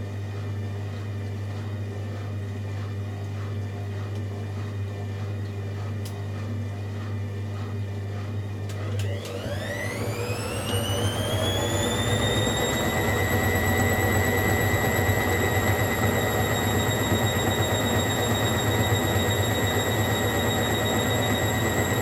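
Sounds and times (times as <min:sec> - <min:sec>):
washing machine motor whine: 0:01.4 - 0:22.0.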